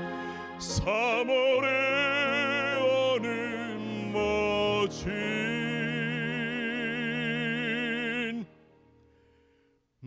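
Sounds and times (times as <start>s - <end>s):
sustained instrumental accompaniment: 0.0s - 8.9s
man singing with vibrato: 0.4s - 8.6s.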